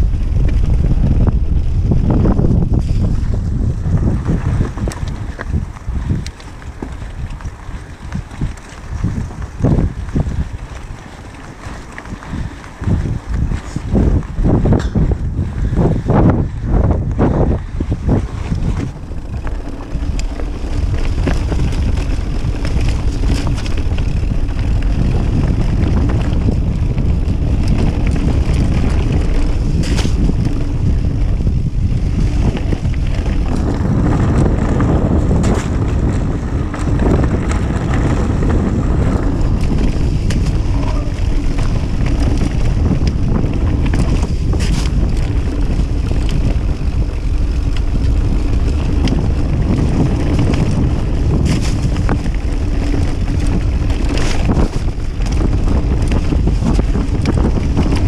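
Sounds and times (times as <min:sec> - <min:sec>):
bike clicks and rattles: 0:00.0 - 0:58.0
tyres rumbling on loose stone: 0:00.0 - 0:58.0
wind buffeting microphone: 0:00.0 - 0:58.0.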